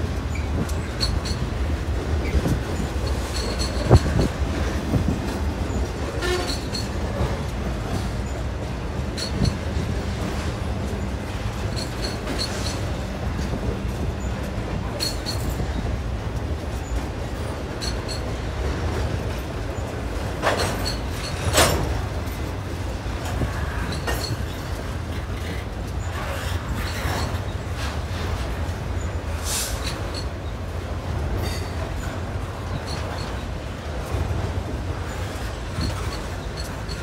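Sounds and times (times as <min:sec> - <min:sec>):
freight train wheels rumbling: 0:00.0 - 0:37.0
train clicks and clanks: 0:00.0 - 0:37.0.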